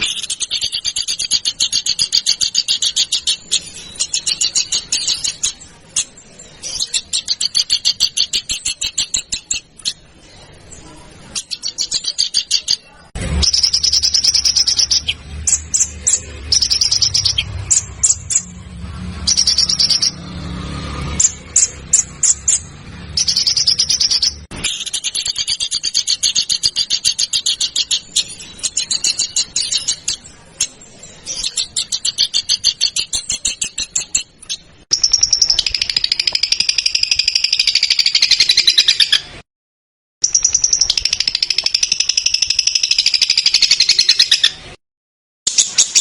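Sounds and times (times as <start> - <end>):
songbird trills: 0.0 - 18.6, 21.2 - 39.3, 40.2 - 44.6
high rattling bird phrases: 0.0 - 39.4, 40.2 - 44.7.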